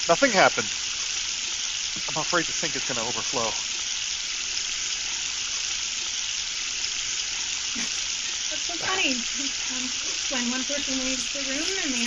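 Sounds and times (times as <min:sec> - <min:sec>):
faucet running water: 0:00.0 - 0:12.0.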